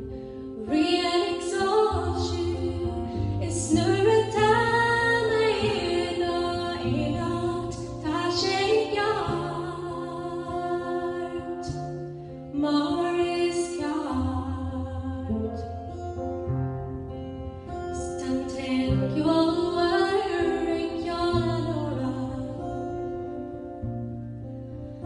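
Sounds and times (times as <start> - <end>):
woman singing a slow ballad: 0.0 - 16.5, 17.2 - 23.9.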